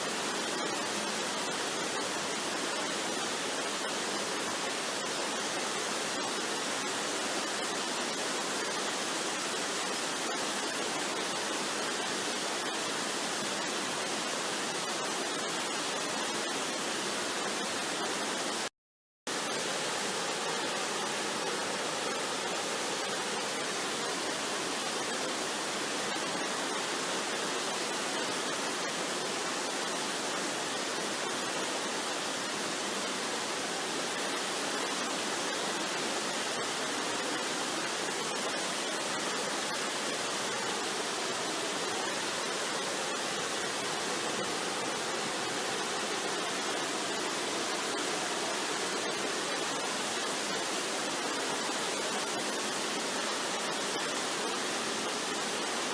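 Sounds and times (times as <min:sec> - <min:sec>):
waterfall roaring: 0:00.0 - 0:18.7, 0:19.3 - 0:55.9.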